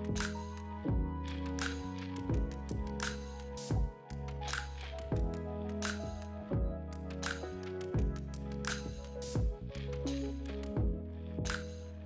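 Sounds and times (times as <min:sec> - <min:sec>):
instrumental music with light beat: 0:00.0 - 0:12.0.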